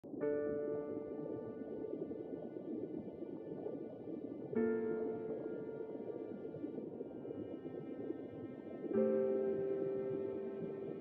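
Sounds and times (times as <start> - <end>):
soft grainy wash: 0.1 - 11.0.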